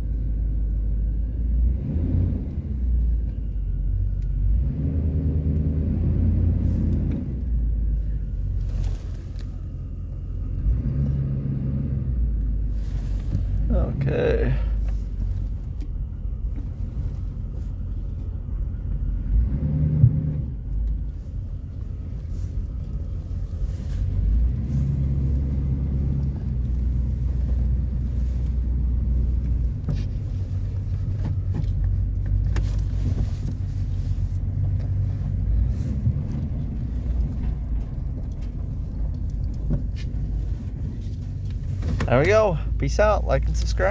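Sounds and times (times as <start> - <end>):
car engine idling: 2.5 - 4.7, 5.3 - 43.9.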